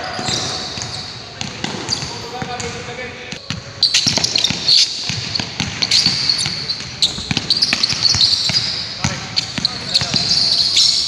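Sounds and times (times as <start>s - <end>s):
sneakers squeaking on floor: 0.0s - 11.0s
basketball bouncing on court: 0.1s - 11.0s.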